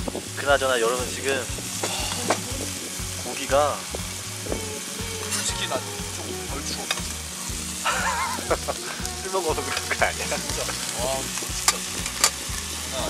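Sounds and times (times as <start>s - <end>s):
fat popping and crackling: 0.0s - 13.0s
meat sizzling on a grill: 0.0s - 13.0s.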